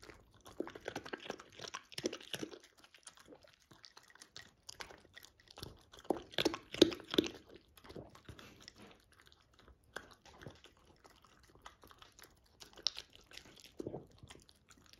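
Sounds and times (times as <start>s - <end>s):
dog crunching dry kibble: 0.0s - 14.9s.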